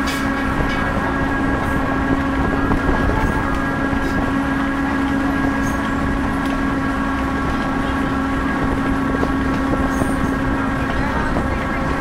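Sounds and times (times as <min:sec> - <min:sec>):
train car rumbling on track: 0:00.0 - 0:12.0.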